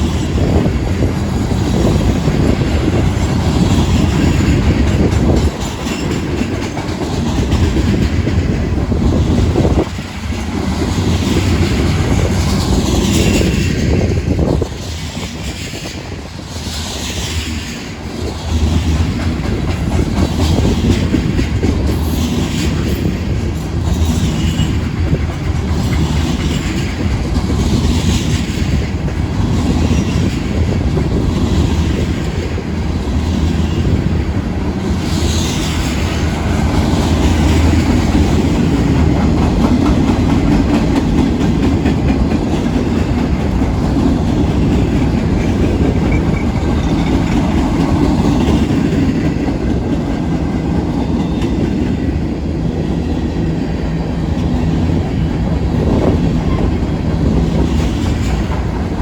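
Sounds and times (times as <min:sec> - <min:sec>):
freight train rumbling past: 0:00.0 - 0:59.0
wheels clickety-clack on rails: 0:00.0 - 0:59.0.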